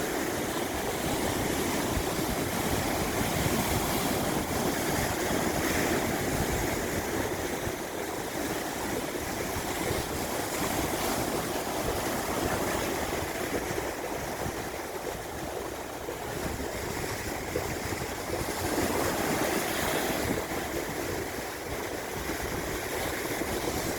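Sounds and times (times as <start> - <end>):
waves breaking: 0.0 - 23.9.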